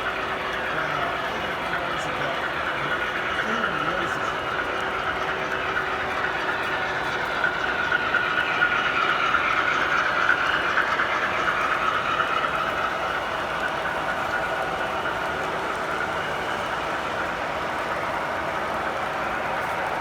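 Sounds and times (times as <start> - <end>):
model train whirring clatter: 0.0 - 20.0.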